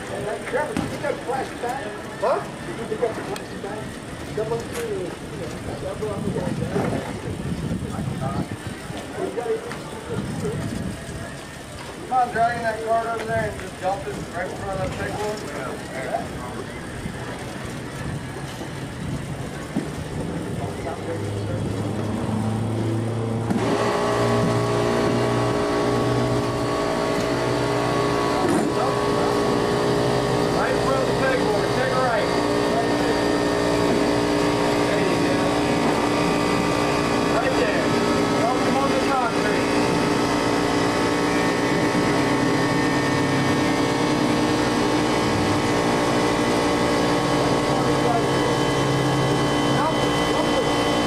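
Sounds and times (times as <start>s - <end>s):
engine humming: 0.0s - 51.0s.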